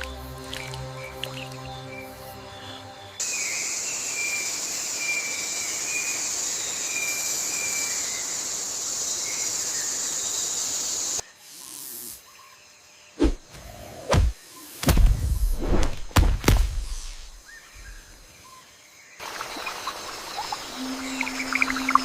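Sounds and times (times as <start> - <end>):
high-pitched insect hiss: 0.0 - 13.1, 16.8 - 22.0.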